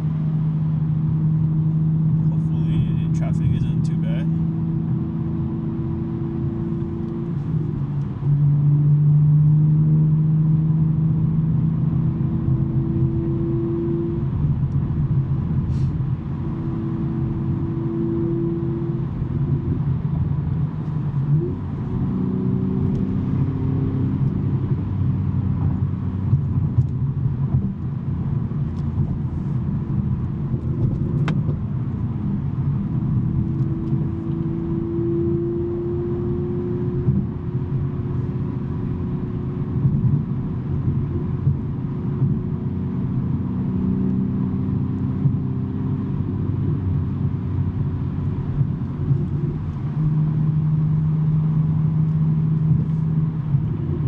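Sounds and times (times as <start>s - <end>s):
car engine and exhaust driving: 0.0s - 54.0s.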